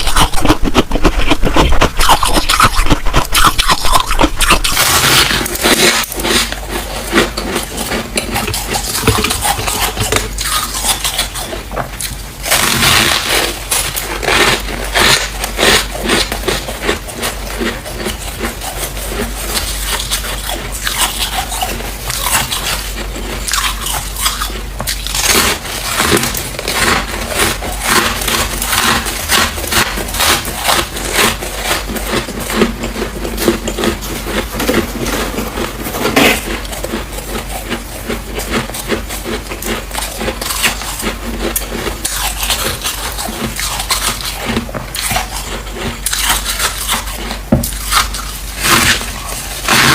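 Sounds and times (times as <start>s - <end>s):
icy frost being chewed: 0.0s - 49.9s.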